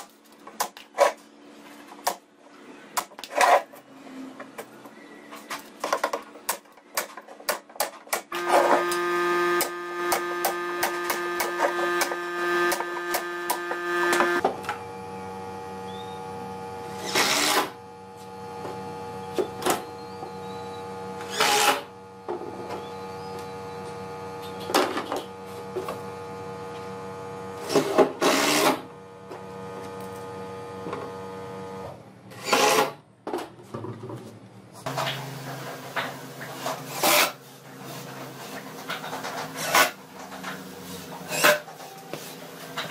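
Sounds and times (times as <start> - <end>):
mechanical hum: 0.0 - 42.9.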